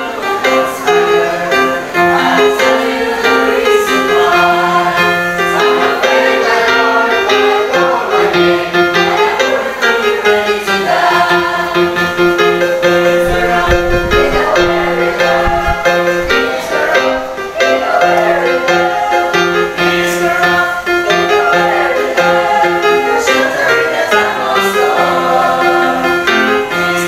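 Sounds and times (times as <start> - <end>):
choir singing gospel song: 0.0 - 27.0
instrumental accompaniment: 0.0 - 27.0.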